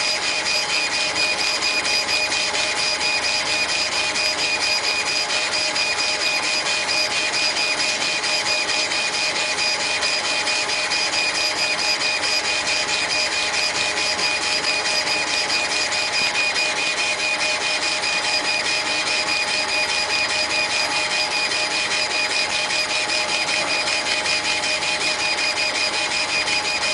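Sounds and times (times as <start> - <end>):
laser engraving machine whining: 0.0 - 26.9.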